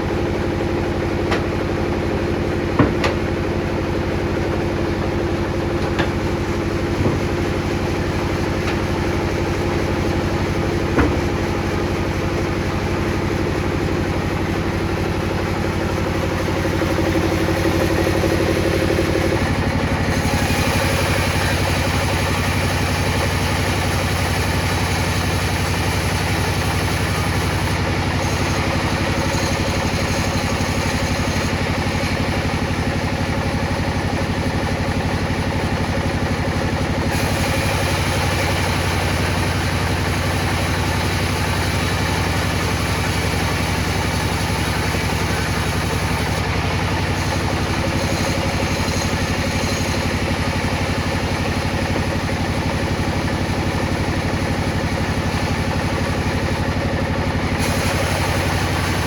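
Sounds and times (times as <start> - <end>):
table saw humming: 0.0 - 59.0.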